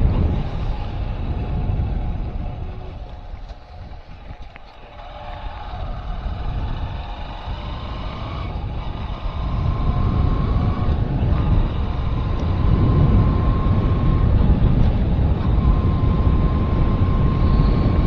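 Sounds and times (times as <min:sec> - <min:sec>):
vehicle engine running: 0:00.0 - 0:18.0
wind rumble on microphone: 0:00.0 - 0:18.0.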